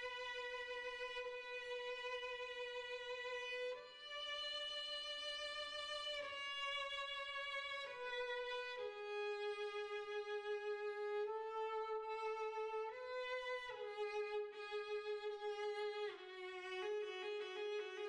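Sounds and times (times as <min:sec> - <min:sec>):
bowed violin melody: 0:00.0 - 0:18.0.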